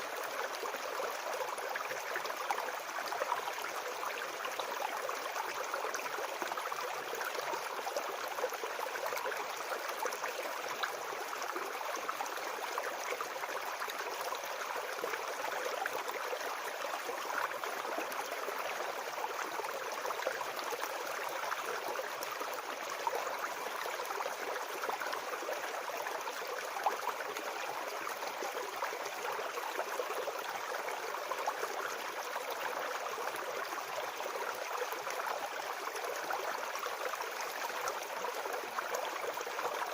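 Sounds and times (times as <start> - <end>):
brook babbling: 0.0 - 39.9.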